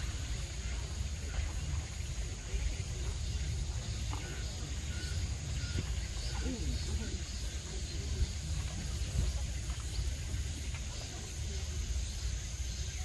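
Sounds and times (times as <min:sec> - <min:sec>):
insects chirping: 0:00.0 - 0:13.0
murmur of voices: 0:00.0 - 0:13.0
steady low rumble: 0:00.0 - 0:13.0.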